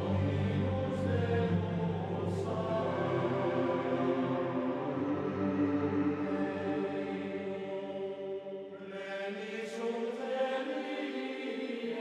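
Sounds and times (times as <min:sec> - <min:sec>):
slow chant-like drone music: 0:00.0 - 0:12.0.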